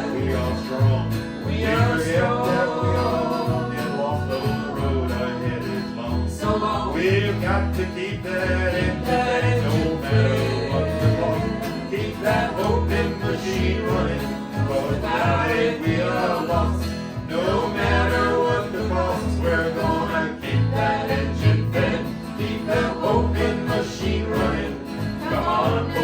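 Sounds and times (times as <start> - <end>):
acoustic bluegrass band music: 0.0 - 26.0.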